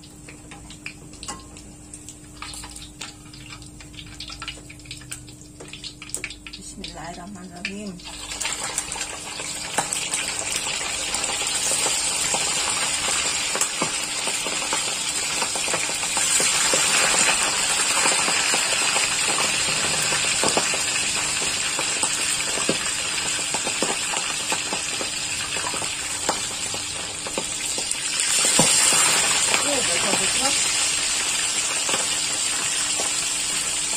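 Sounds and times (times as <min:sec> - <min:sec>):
hot oil sizzling in a wok: 0:00.0 - 0:33.9.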